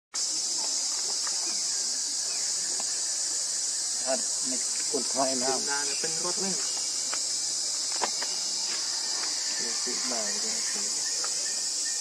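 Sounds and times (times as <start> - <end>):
high-pitched insect chorus: 0.2 - 12.0.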